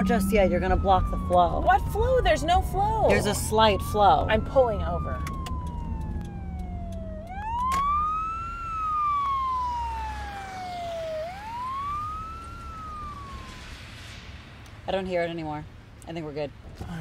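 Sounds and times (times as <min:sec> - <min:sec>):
wail siren: 0:00.0 - 0:14.2
car interior hum: 0:00.0 - 0:17.0.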